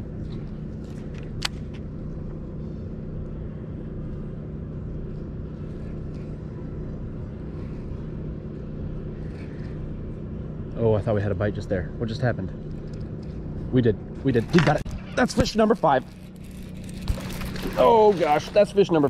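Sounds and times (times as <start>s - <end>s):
urban background rumble: 0.0s - 19.0s.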